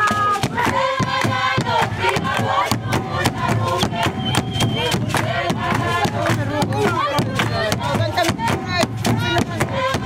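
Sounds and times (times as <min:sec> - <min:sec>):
drum beat: 0:00.0 - 0:10.0
handclaps: 0:00.0 - 0:10.0
women and girls singing: 0:00.0 - 0:10.0.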